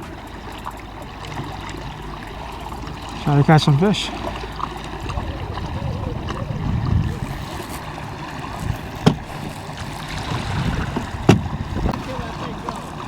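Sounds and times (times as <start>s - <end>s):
low rumble: 0.0s - 13.0s
water rushing: 0.0s - 13.0s
wind: 0.0s - 13.0s.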